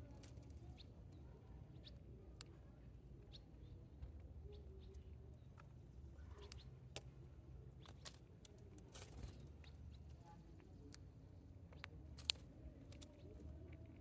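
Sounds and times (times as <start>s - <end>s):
sparrows pecking at birdseed: 0.0s - 14.0s.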